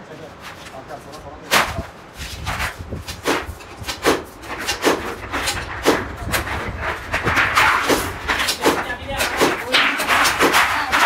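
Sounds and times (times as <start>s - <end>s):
metal sheet scraping and rustling: 0.4s - 11.0s
steel sheet rattling: 1.5s - 11.0s.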